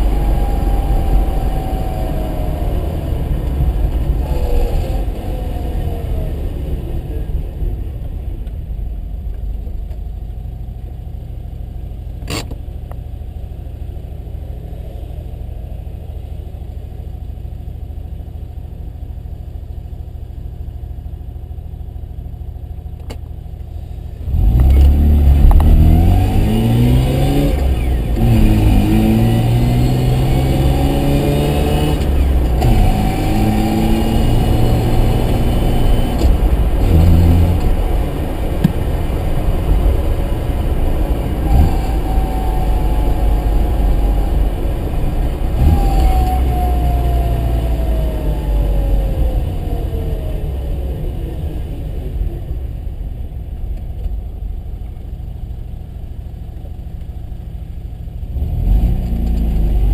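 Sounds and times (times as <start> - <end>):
rotary car engine running: 0.0 - 59.9.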